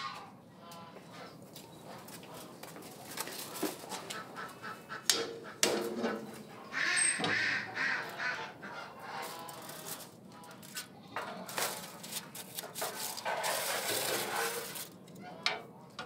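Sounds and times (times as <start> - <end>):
farmyard birds calling: 0.0 - 16.0.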